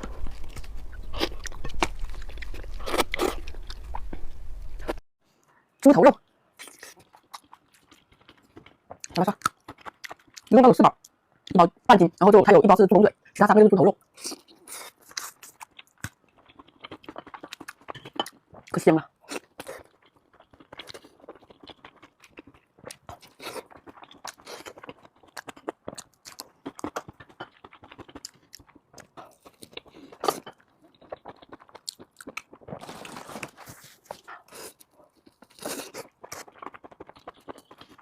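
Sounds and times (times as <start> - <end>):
person chewing and crunching: 0.0 - 5.0, 6.6 - 10.5, 14.0 - 38.0.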